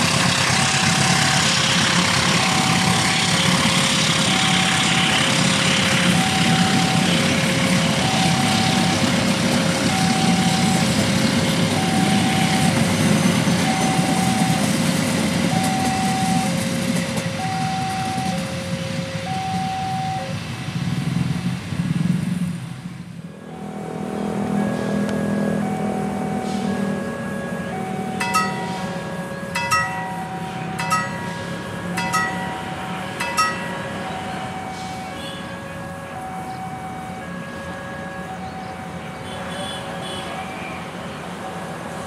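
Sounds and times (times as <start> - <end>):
level-crossing warning alarm: 0.0 - 20.8, 23.3 - 42.0
train wheels rumbling on rails: 0.0 - 42.0.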